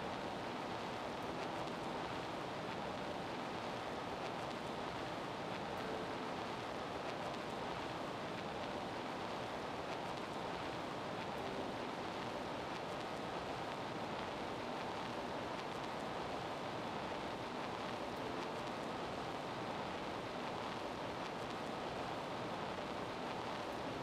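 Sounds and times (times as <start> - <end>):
gymnasium ambience hiss: 0.0 - 24.0.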